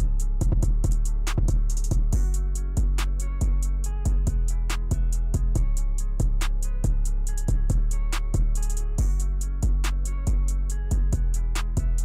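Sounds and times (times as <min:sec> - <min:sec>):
deep sustained bass: 0:00.0 - 0:12.0
hi-hat ticks: 0:00.0 - 0:12.0
kick drum: 0:00.0 - 0:12.0.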